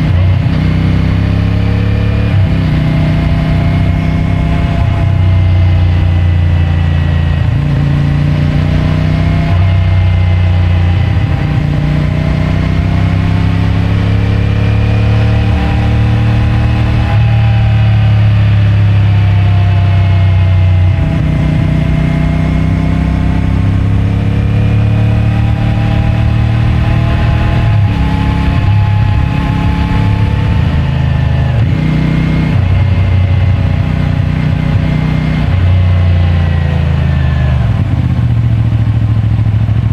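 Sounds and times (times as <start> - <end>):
motorcycle engine changing gear: 0.0 - 39.9.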